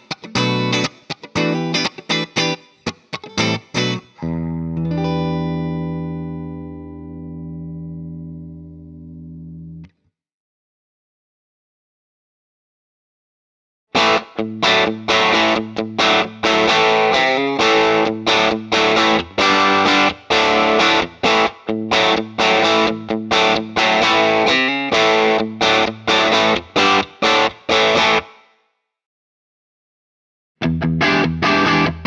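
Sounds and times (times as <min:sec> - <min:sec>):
distorted electric guitar chords: 0:00.0 - 0:09.9, 0:14.0 - 0:28.4, 0:30.6 - 0:32.0.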